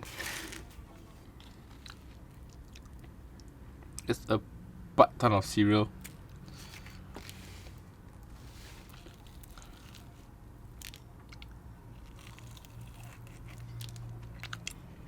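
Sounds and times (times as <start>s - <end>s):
chewing crispy fried chicken: 0.2s - 3.5s, 6.0s - 15.0s.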